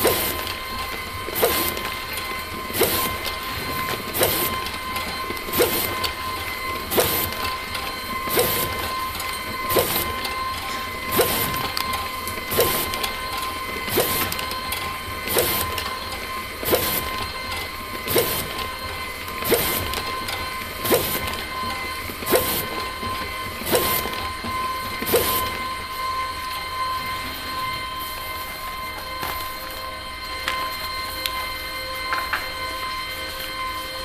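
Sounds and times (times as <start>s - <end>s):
machine motor hum: 0.0s - 34.0s.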